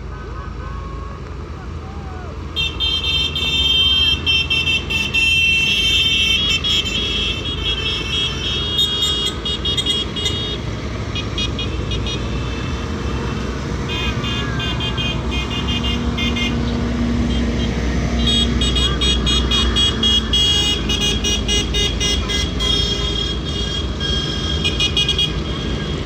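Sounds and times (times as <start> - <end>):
tractor engines rumbling: 0.0 - 26.0
vehicle horns tooting: 2.1 - 26.0.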